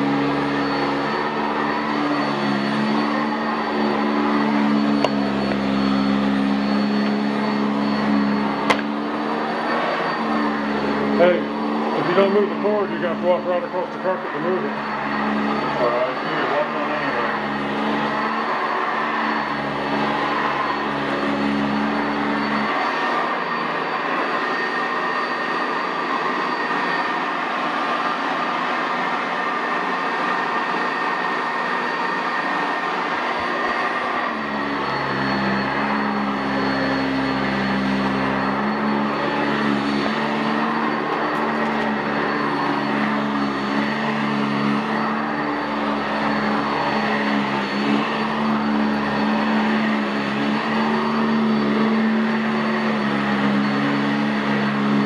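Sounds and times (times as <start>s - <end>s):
upright vacuum cleaner whining: 0.0s - 55.0s.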